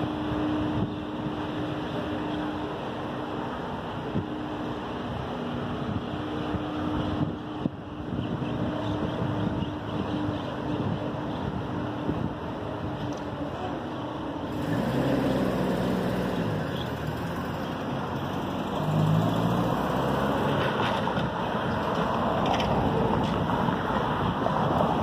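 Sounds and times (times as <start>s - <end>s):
car engines: 0.0s - 25.0s.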